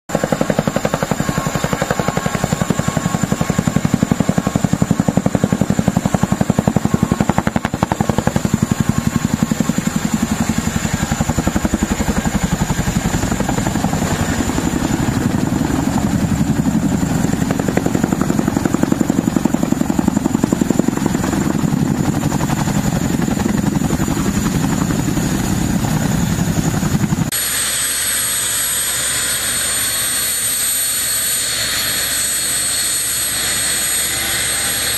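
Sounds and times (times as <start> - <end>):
helicopter engines droning: 0.1 - 34.9
helicopter rotor beat: 0.1 - 34.9
high turbine whine: 0.1 - 34.9.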